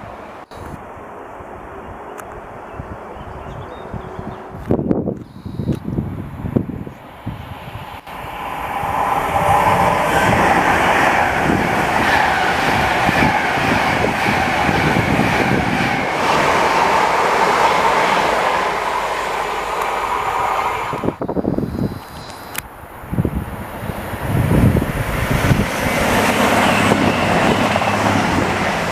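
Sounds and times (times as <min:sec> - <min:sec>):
train passing on rails: 0:00.0 - 0:28.9.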